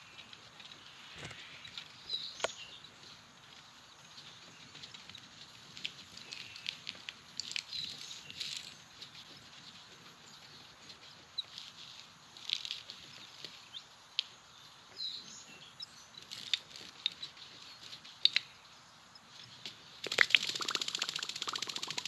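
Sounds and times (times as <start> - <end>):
faint nature ambience: 0.0 - 22.0.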